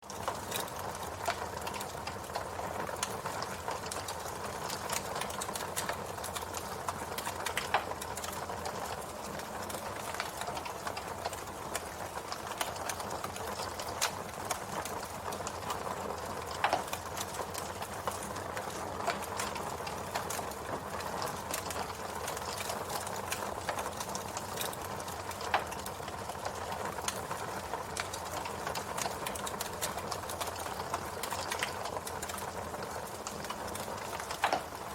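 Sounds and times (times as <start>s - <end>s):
campfire crackling: 0.0s - 34.9s
fire pops: 0.1s - 34.9s.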